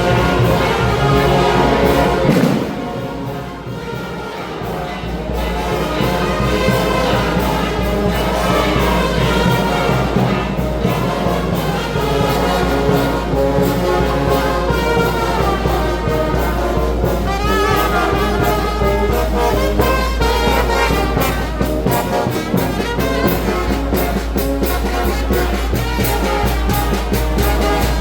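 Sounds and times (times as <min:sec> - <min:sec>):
brass band playing: 0:00.0 - 0:28.0.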